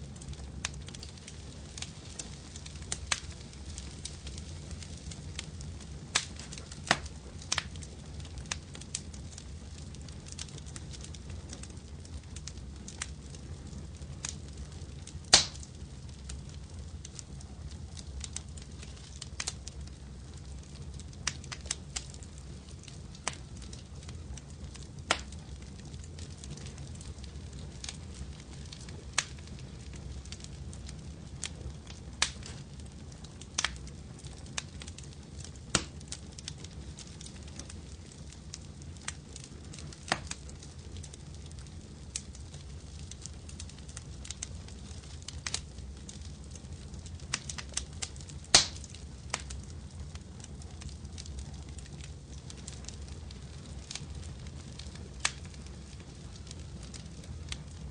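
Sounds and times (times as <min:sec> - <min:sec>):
wood fire crackling: 0:00.0 - 0:57.9
sharp pops from fire: 0:00.1 - 0:57.9.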